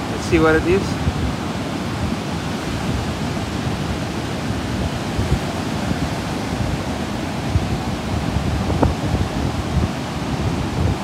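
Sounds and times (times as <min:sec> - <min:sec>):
ocean surf breaking: 0:00.0 - 0:11.0
wind: 0:00.0 - 0:11.0.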